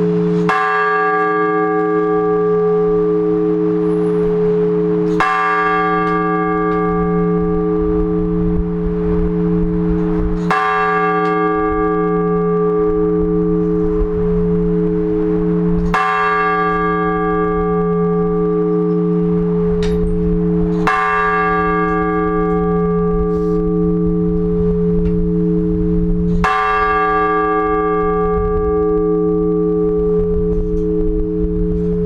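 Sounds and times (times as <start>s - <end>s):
large church bell tolling: 0.0s - 32.0s.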